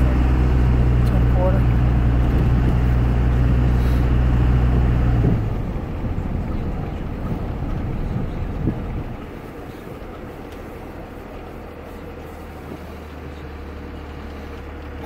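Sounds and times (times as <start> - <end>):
diesel engine drone: 0.0 - 15.0
faint engine rumble: 0.0 - 15.0.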